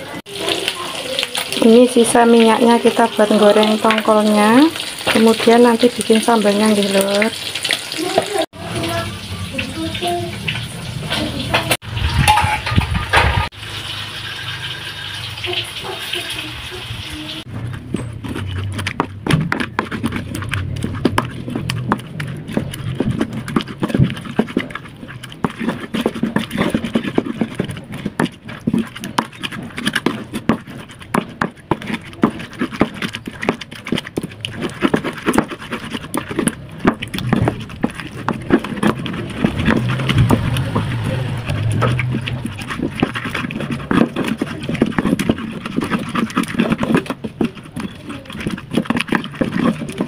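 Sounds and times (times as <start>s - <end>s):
pestle knocking and scraping: 1.4s - 13.6s, 17.4s - 50.0s.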